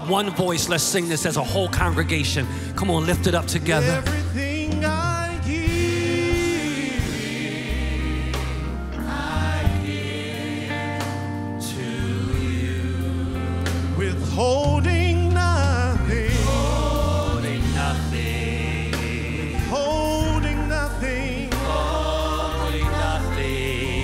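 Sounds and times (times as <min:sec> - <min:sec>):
congregation singing gospel song: 0:00.0 - 0:24.0
band low bass notes: 0:01.6 - 0:24.0.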